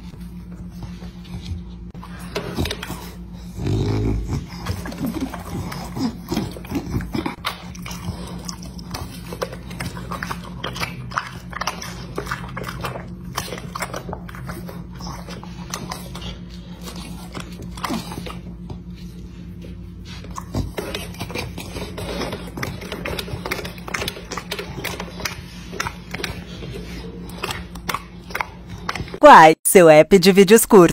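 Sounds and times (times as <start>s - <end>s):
steady low hum: 0.0s - 30.9s
dog chewing and smacking: 2.0s - 29.2s.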